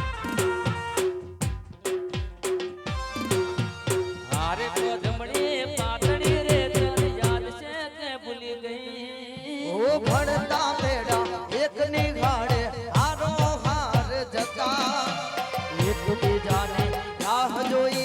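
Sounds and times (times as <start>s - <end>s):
drum strokes: 0.0s - 7.6s, 10.0s - 18.0s
folk dance music: 0.0s - 7.6s, 10.1s - 18.0s.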